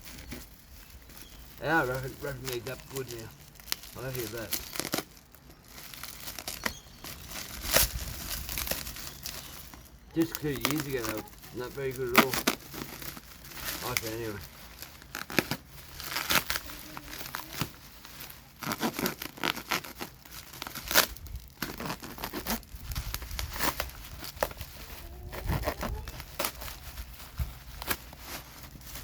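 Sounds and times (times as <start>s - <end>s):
packing material tearing and crumpling: 0.0s - 29.0s.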